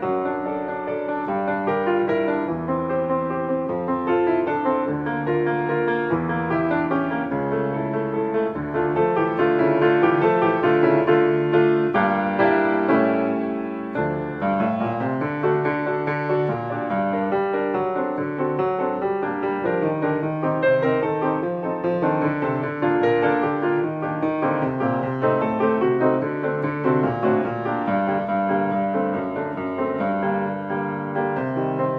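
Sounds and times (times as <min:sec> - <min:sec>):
piano music with low bass: 0:00.0 - 0:31.9.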